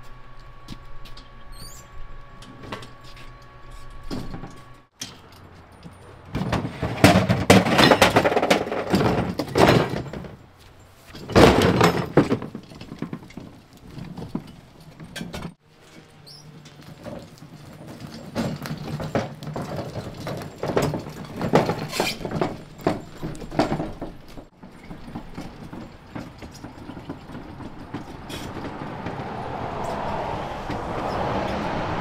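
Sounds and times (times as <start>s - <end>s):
cart rattling on concrete: 4.2s - 32.0s.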